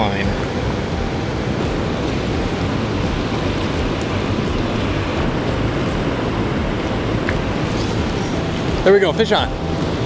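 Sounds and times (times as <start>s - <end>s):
water rushing through spillway: 0.0s - 10.0s.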